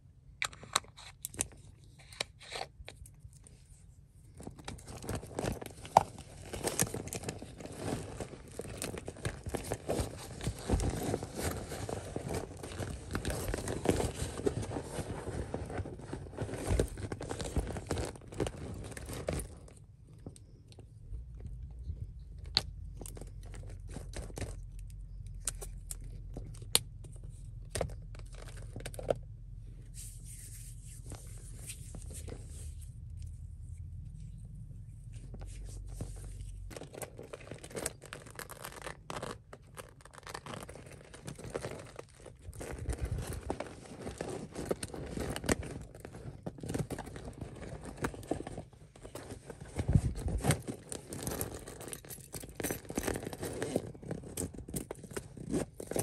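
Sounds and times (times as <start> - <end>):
purse rustling and crinkling: 0.9 - 56.0.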